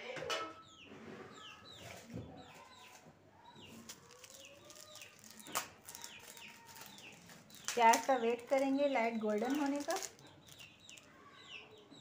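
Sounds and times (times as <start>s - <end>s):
faint birds chirping: 0.5s - 12.0s.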